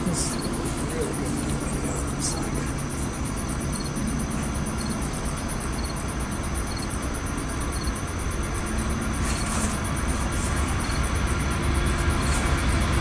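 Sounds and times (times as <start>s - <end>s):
insect triple chirp: 0.0s - 13.0s
insects trilling: 0.0s - 13.0s
low engine rumble: 0.0s - 13.0s.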